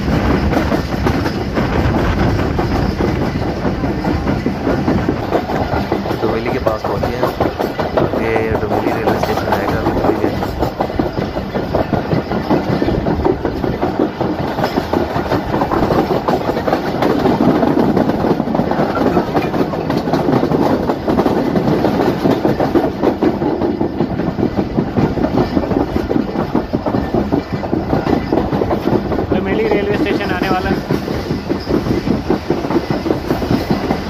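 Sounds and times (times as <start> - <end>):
carriages rattling: 0.0 - 34.0
wheels rumbling on rails: 0.0 - 34.0.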